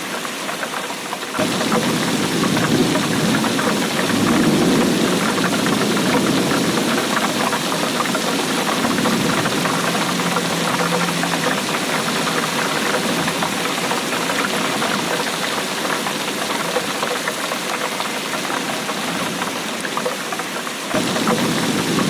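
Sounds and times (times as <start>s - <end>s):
rain hissing: 0.0s - 22.0s
raindrop impacts: 0.0s - 22.0s.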